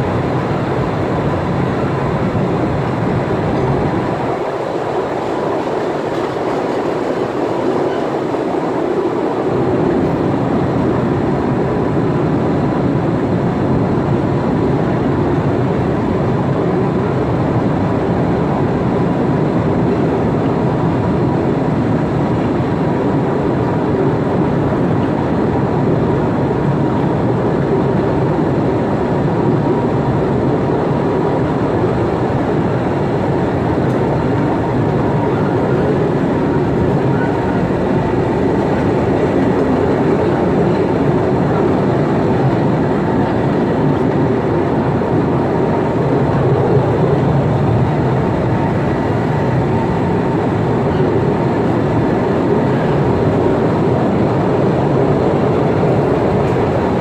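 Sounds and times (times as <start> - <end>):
train rumbling and rattling on rails: 0.0 - 57.0.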